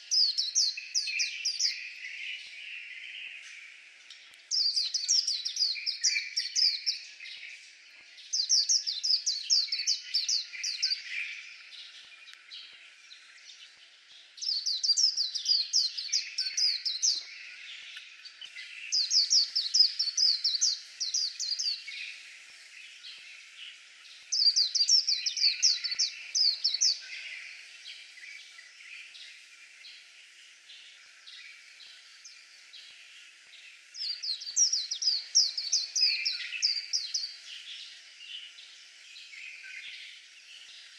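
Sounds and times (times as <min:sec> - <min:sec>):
bird warbling song: 0:00.0 - 0:40.9
soft bird twittering: 0:00.0 - 0:40.9.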